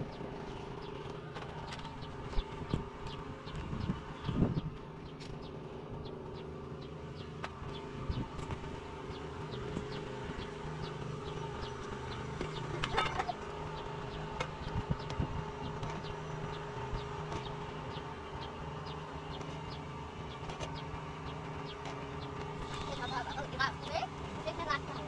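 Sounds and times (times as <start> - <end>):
droning hum: 0.0 - 25.0.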